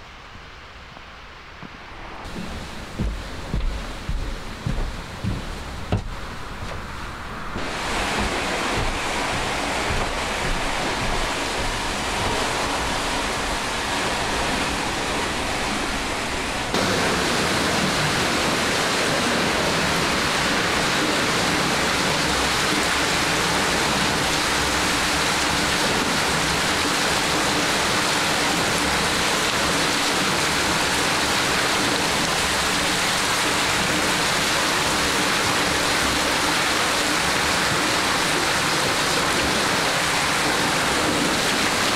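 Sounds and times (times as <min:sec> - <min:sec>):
water rushing and churning: 0:02.2 - 0:41.9.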